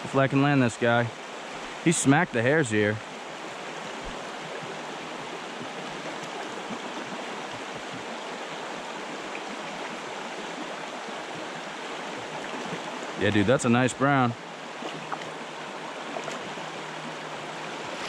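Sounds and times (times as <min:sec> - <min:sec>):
stream rushing over stones: 0:00.0 - 0:18.0.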